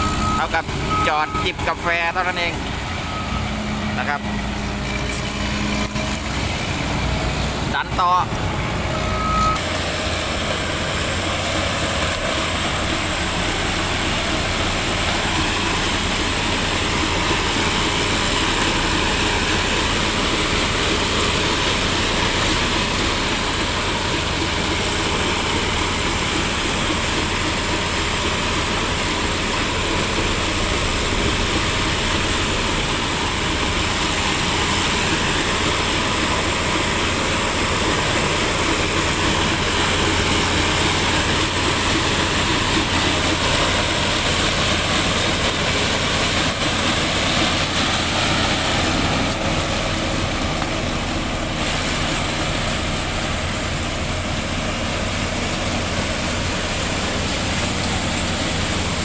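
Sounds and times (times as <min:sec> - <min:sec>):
harvester engine and machinery: 0:00.0 - 0:59.0.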